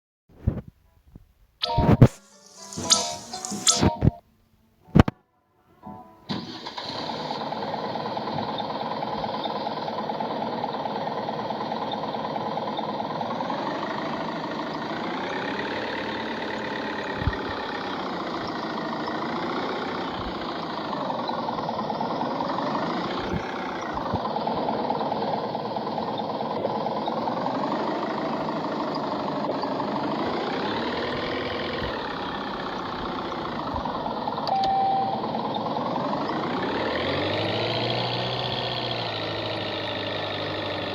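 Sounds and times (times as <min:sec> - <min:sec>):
engine revving: 0:06.4 - 0:40.9.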